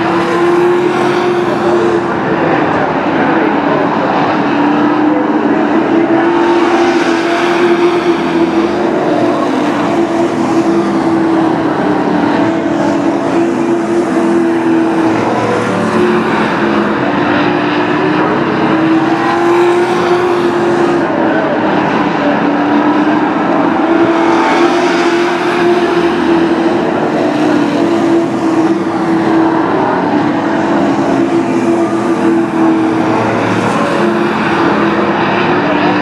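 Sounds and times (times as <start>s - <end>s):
race truck engines droning: 0.0s - 36.0s.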